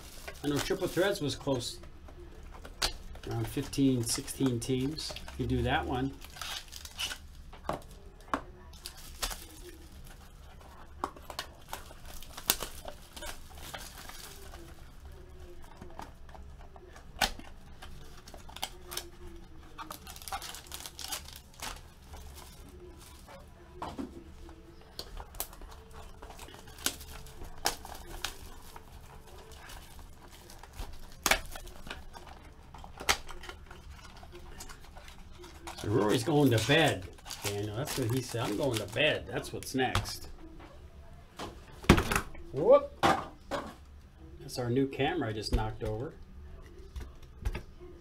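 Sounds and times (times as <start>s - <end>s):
plastic wrapping crinkling and tearing: 0.0s - 40.3s.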